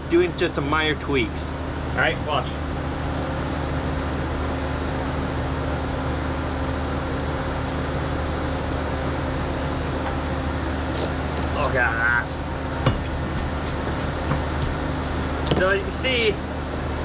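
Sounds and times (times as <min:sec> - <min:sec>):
forge air blower drone: 0:00.0 - 0:17.0.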